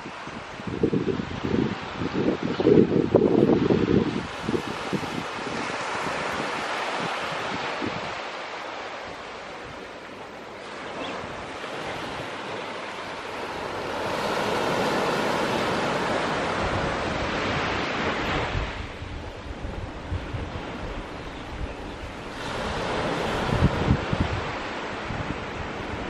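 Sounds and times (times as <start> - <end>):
wind buffeting microphone: 0.0 - 8.4, 9.1 - 26.0
small waves washing on beach: 0.0 - 26.0.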